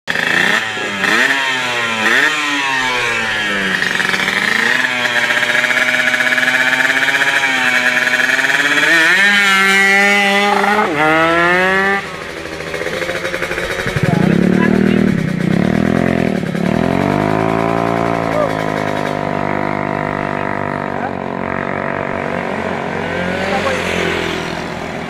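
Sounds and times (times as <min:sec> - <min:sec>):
motorcycle engine revving hard: 0:00.1 - 0:25.0.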